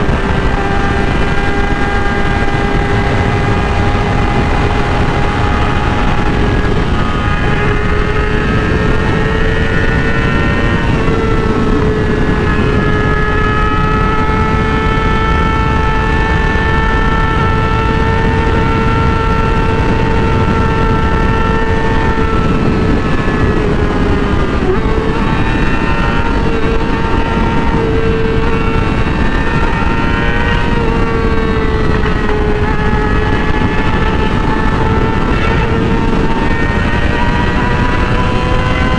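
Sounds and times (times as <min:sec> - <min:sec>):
motorcycle engine at high revs: 0:00.0 - 0:38.9
rush of wind: 0:00.0 - 0:38.9.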